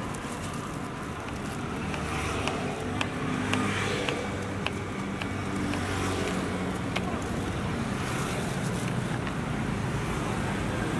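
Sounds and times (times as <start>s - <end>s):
street traffic drone: 0.0s - 10.9s.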